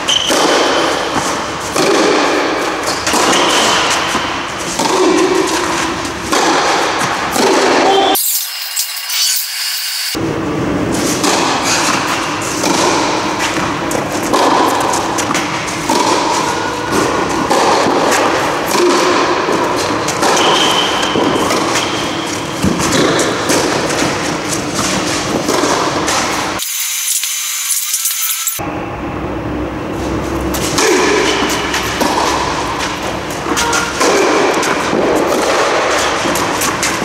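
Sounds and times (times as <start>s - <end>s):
ball bouncing: 0.0s - 8.2s, 11.1s - 26.6s, 30.5s - 37.0s
racket hitting tennis ball: 0.0s - 8.2s, 10.2s - 26.6s, 29.9s - 37.0s.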